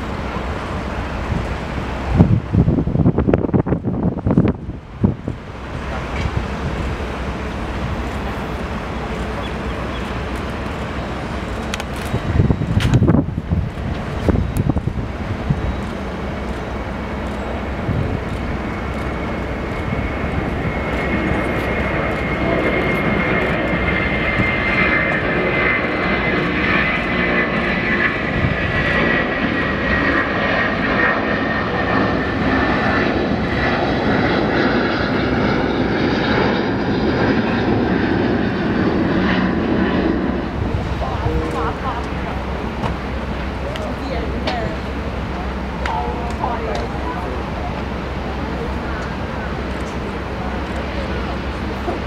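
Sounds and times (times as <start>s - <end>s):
jet engines at takeoff power: 0.0s - 52.0s.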